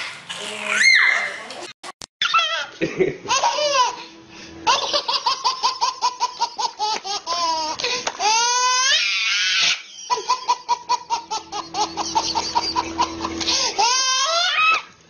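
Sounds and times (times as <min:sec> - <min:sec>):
baby squealing with laughter: 0:00.6 - 0:01.4, 0:02.2 - 0:04.0, 0:04.7 - 0:14.9
baby laughing: 0:02.2 - 0:14.8.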